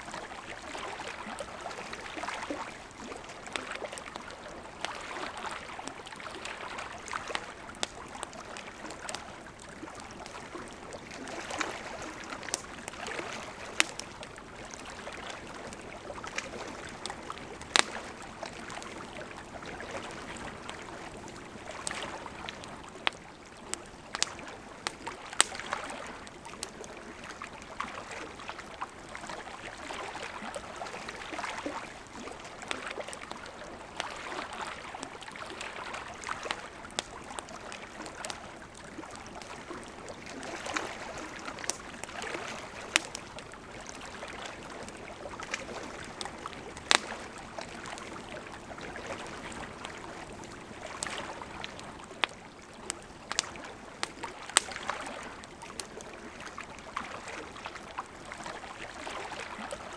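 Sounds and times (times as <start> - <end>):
burning wood crackling and popping: 0.4 - 27.9, 28.8 - 56.2.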